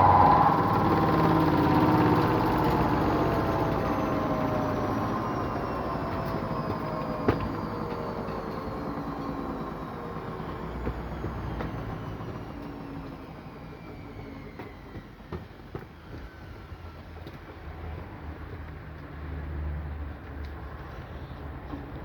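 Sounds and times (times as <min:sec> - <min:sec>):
washing machine spinning down: 0:00.0 - 0:18.5.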